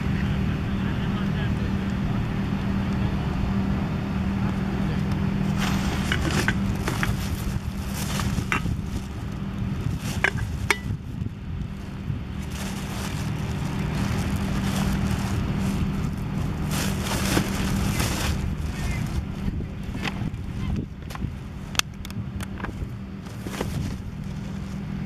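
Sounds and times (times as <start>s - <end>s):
low engine hum: 0.0s - 25.0s
wind rumble on microphone: 0.0s - 25.0s.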